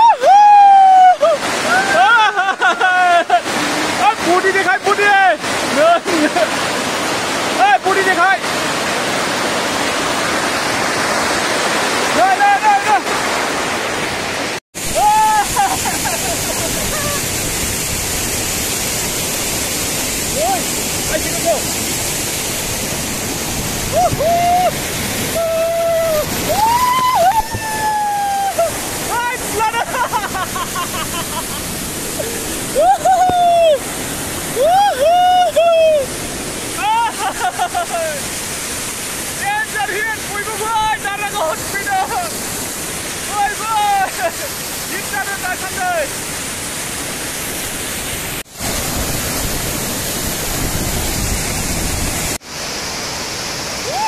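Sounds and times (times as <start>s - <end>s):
rushing river water: 0.0s - 54.0s.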